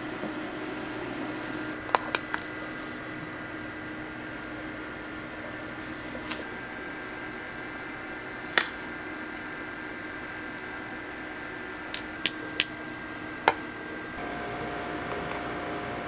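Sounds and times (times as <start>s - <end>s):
kitchen appliance hum: 0.0s - 16.0s.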